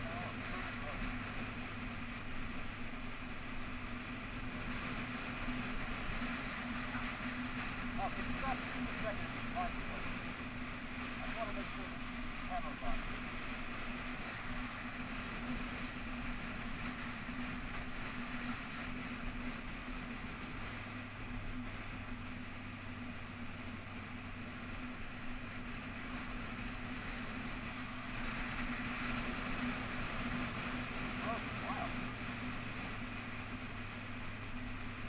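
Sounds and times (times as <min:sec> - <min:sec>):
motorcycle engine running: 0:00.0 - 0:35.0
wind and road rush: 0:00.0 - 0:35.0.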